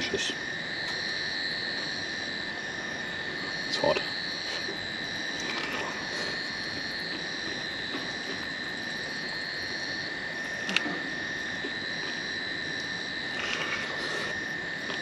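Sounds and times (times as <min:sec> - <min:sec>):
frogs and insects chorus: 0:00.0 - 0:15.0.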